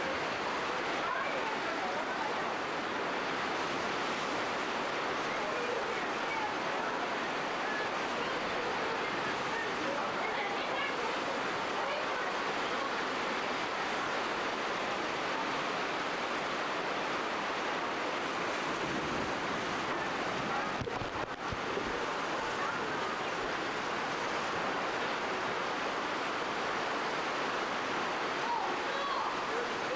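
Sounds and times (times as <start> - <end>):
gusting wind: 0.0 - 29.9
heavy rain on tent canopy: 0.0 - 29.9.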